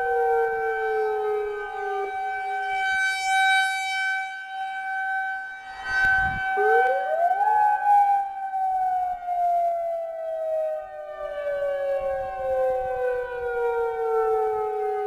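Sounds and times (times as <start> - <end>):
siren wail rising and falling: 0.0 - 3.1, 5.6 - 15.0
siren steady alert tone: 0.0 - 15.0.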